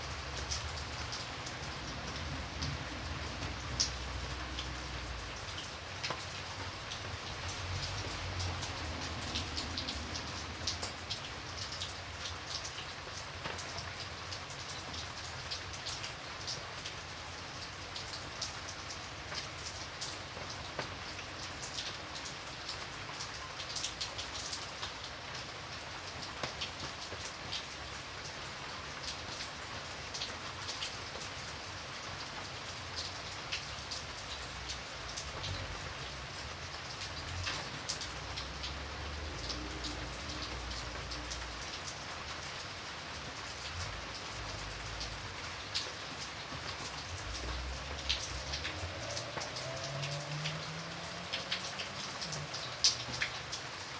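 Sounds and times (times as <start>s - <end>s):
raindrops ticking on hard surface: 0.0s - 53.9s
steady rain hiss: 0.0s - 53.9s.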